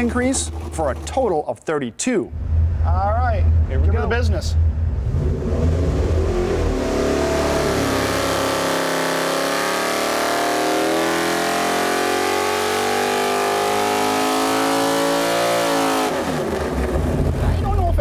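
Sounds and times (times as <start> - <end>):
v eight engine revving at full throttle: 2.3 - 17.6.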